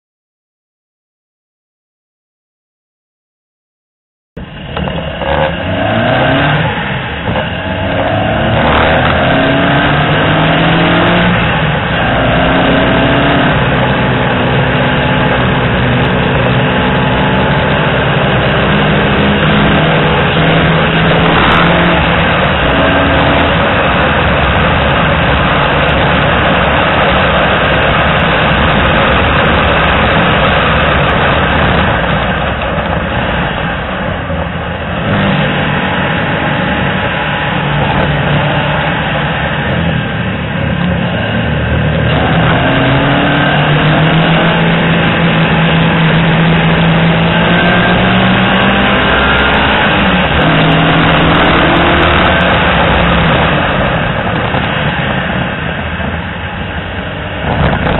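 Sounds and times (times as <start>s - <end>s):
car engine revving at full throttle: 4.4s - 57.9s
wind and road noise: 4.4s - 57.9s.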